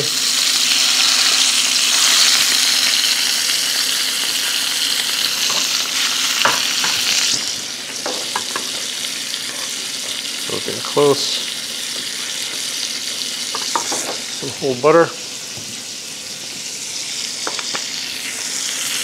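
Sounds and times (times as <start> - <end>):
scallops sizzling in a frying pan: 0.0 - 19.0.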